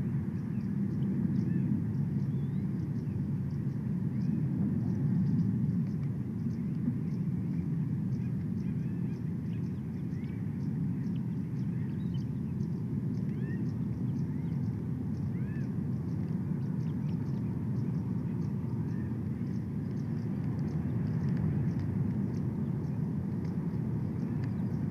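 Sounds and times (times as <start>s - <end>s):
low outdoor rumble: 0.0s - 24.9s.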